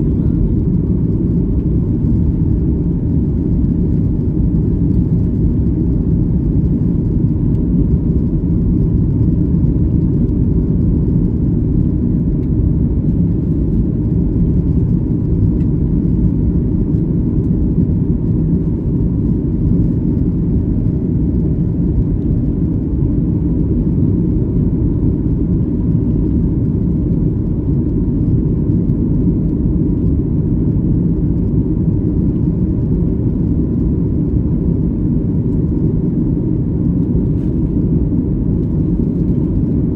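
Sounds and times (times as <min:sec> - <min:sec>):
airplane cabin engine rumble: 0:00.0 - 0:39.9
faint steady hum: 0:00.0 - 0:39.9.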